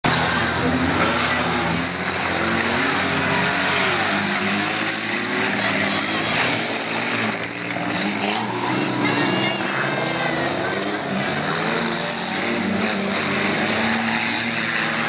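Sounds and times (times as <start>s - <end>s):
car engines revving and accelerating: 0.0s - 15.0s
dense steady background noise: 0.0s - 15.0s.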